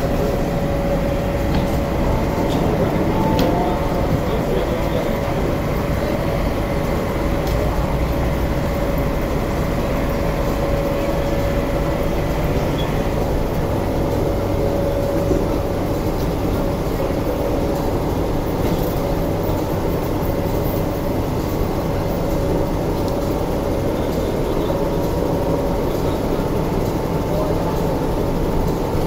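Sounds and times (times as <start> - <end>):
train humming: 0.0 - 29.0.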